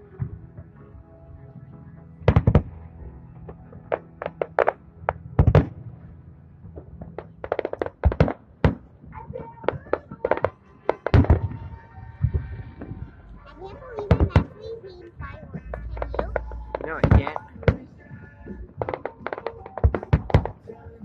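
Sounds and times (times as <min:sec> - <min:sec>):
fireworks bursting: 0:02.2 - 0:05.9, 0:06.7 - 0:13.1, 0:13.8 - 0:21.0.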